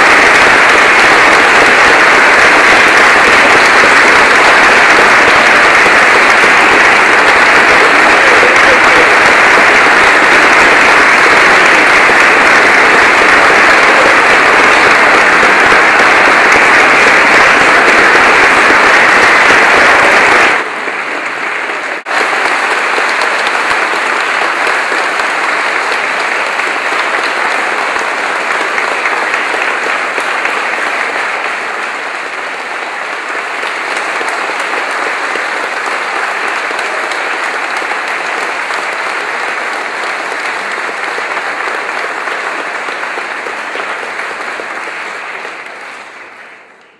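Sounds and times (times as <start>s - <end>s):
audience applauding: 0.0s - 46.9s.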